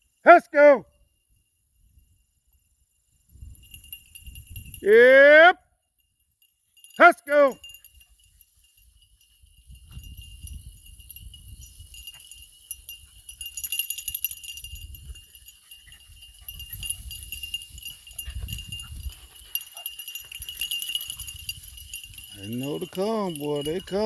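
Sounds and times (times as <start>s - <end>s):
dog collars jingling: 0.0s - 4.9s, 5.8s - 24.0s.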